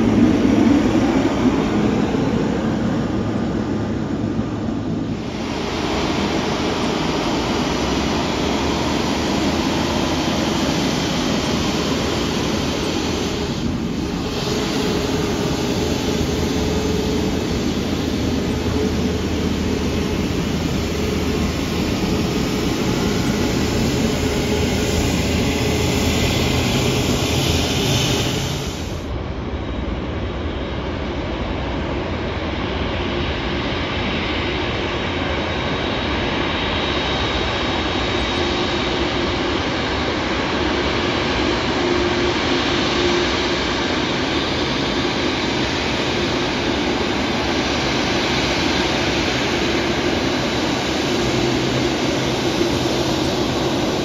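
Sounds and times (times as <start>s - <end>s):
jet airliner taxiing: 0.0s - 54.0s
jet engines humming with whine: 0.0s - 54.0s.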